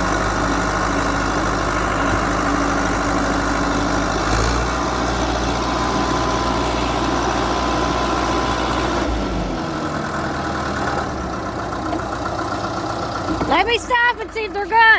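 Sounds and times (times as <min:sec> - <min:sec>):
bulldozer diesel engine running: 0:00.0 - 0:14.9.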